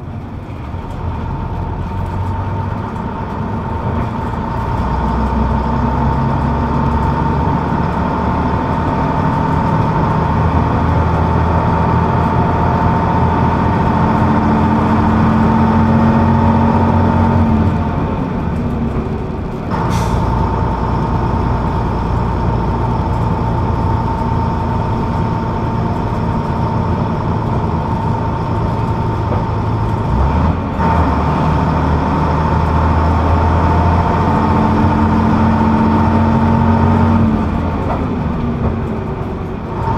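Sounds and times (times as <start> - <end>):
bus diesel engine pulling: 0.0 - 39.9.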